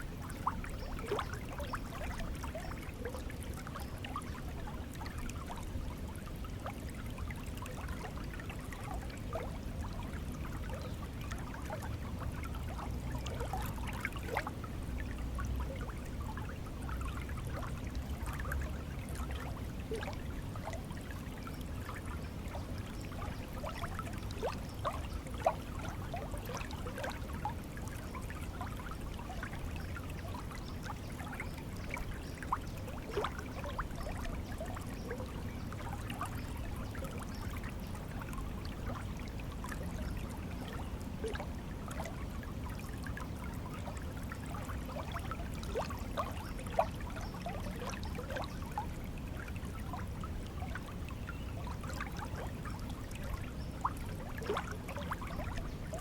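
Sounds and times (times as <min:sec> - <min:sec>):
stream of water flowing: 0:00.0 - 0:56.0.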